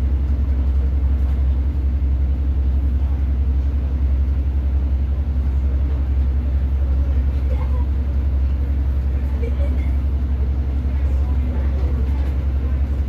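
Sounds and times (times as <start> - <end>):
diesel engine drone: 0.0 - 13.0
train wheels on the track: 0.0 - 13.0.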